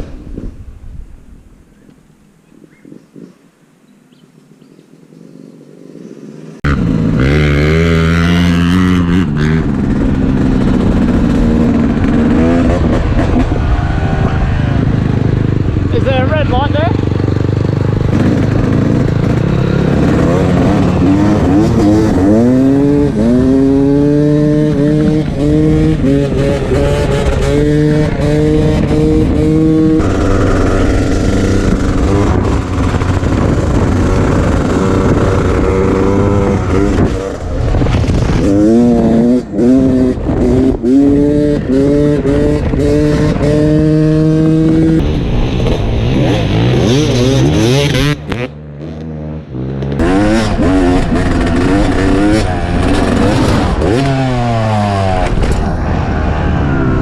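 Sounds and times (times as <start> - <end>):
dirt bike engine revving: 6.6 - 57.0.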